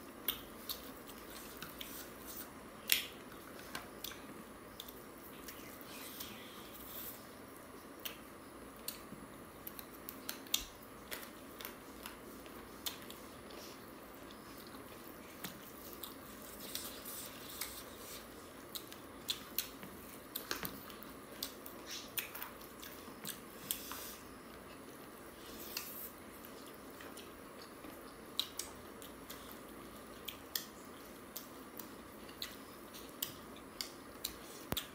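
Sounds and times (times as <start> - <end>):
people chewing with mouth smacks: 0.0 - 34.9.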